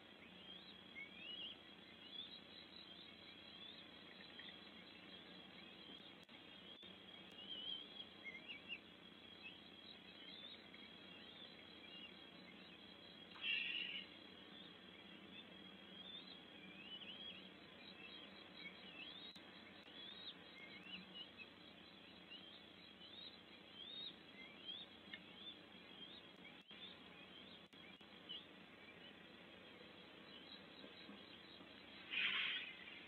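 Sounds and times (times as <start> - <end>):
faint bird chirps: 0.0 - 33.0
quiet forest background: 0.0 - 33.0.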